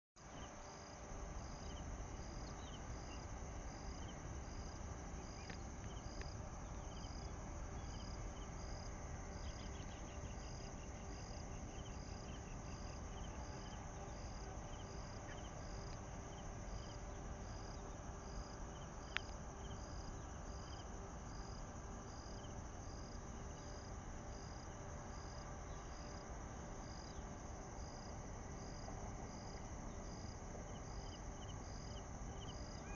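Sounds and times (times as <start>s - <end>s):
insects chirping: 0.2s - 32.9s
low steady hum: 0.2s - 32.9s
rapid insect trill: 0.2s - 32.9s.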